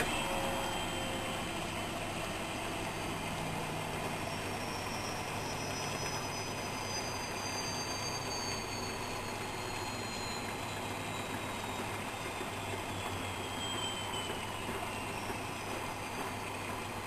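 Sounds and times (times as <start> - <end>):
faint high whine: 0.0 - 17.0
washing machine hum: 0.0 - 17.0.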